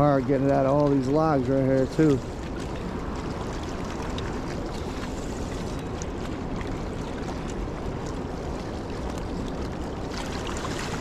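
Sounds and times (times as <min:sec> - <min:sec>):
water lapping at shore: 0:00.0 - 0:11.0.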